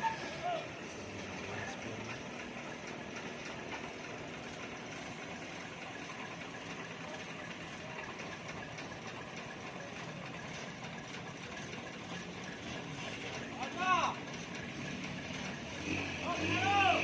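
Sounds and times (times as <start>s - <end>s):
road and traffic noise: 0.0s - 17.0s
truck engine running: 0.0s - 17.0s.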